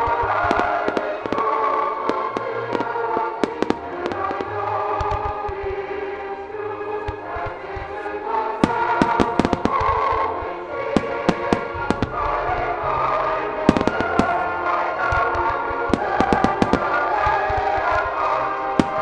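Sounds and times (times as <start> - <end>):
choral orchestral music on loudspeakers: 0.0 - 19.0
fireworks bangs and crackles: 0.0 - 19.0.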